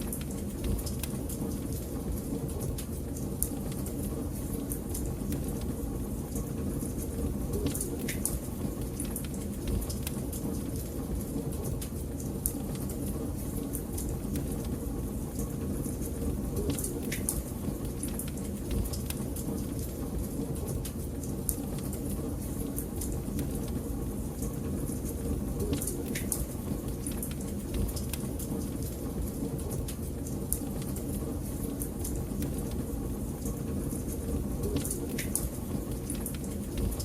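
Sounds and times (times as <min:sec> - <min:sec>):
wood fire crackling in fireplace: 0:00.0 - 0:37.0.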